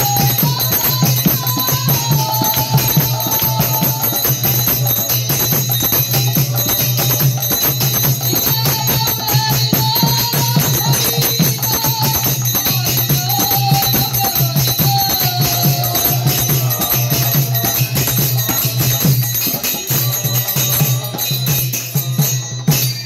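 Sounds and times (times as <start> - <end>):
hand drums playing fast rhythm: 0.0 - 23.0
small hand cymbals jingling: 0.0 - 23.0.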